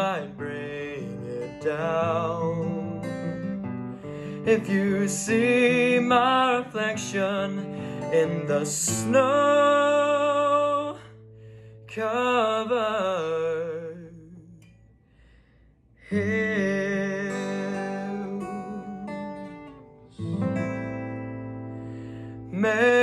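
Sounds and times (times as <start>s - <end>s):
man singing with vibrato: 0.0s - 11.2s, 11.9s - 14.7s, 16.0s - 20.4s, 22.2s - 23.0s
acoustic guitar chords: 0.0s - 23.0s.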